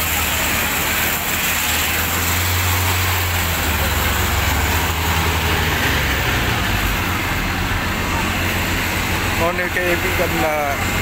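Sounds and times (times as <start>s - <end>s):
crowd voices: 0.0s - 11.0s
truck engine droning: 0.0s - 11.0s.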